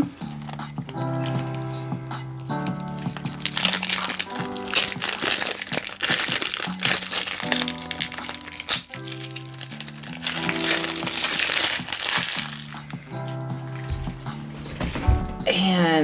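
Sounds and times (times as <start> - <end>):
background music: 0.0 - 16.0
plastic wrap crinkling and tearing: 0.3 - 1.7, 2.4 - 15.4.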